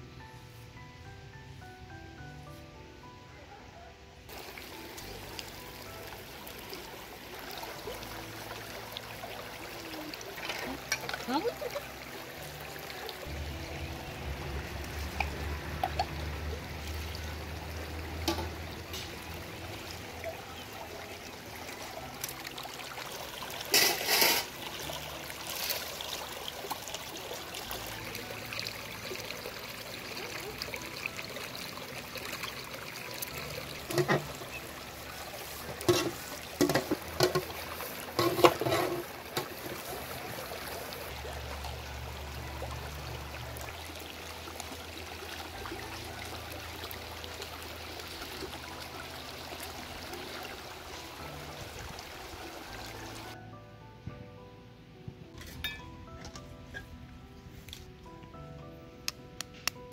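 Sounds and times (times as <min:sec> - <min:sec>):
stream running over stones: 0:04.3 - 0:53.4.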